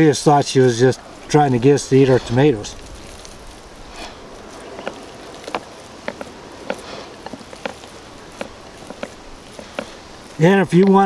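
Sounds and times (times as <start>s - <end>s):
steady background hiss: 0.0s - 11.0s
wet squishing of meat kneaded by hand: 0.0s - 11.0s.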